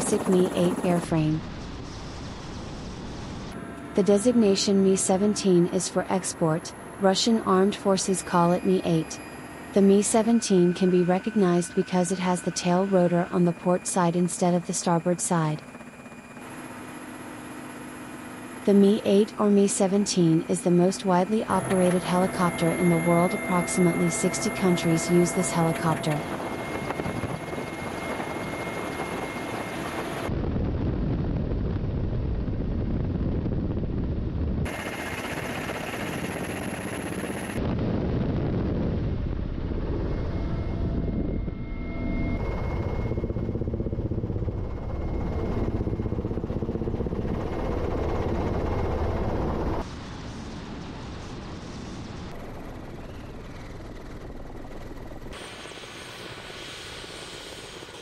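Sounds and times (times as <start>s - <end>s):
helicopter rotor and turbine: 0.0s - 58.0s.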